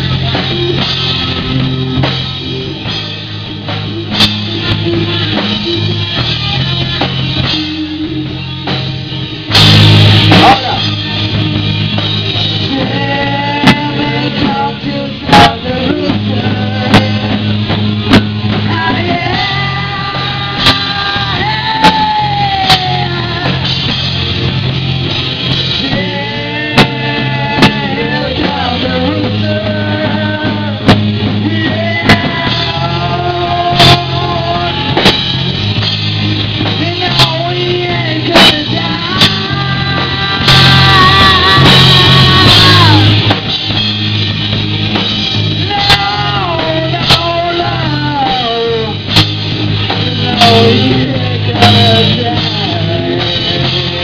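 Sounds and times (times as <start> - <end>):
lead singer holding long notes: 0.0 - 24.0, 25.6 - 44.0, 45.4 - 54.0
live rock band playing: 0.0 - 54.0.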